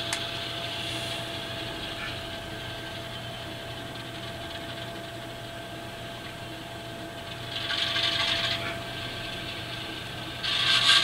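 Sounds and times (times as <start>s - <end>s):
model locomotive diesel engine sound: 0.0s - 11.0s.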